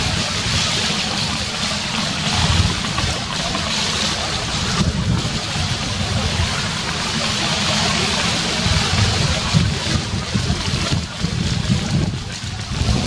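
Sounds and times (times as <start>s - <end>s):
distant fireworks rumble: 0.0s - 13.0s
steady hiss: 0.0s - 13.0s.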